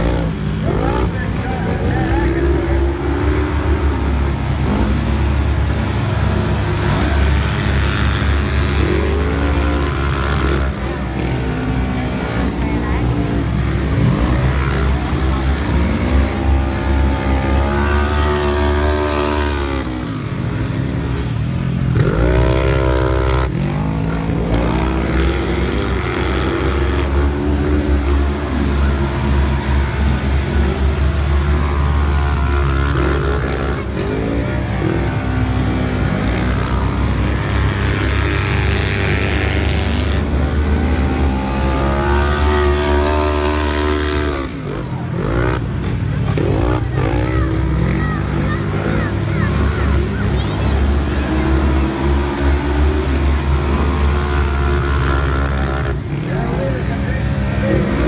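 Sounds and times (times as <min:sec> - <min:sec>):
race engines revving: 0:00.0 - 0:58.0.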